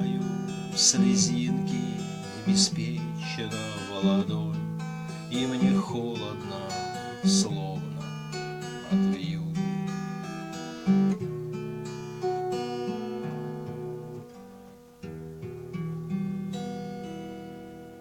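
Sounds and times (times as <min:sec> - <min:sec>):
acoustic guitar chords: 0:00.0 - 0:18.0.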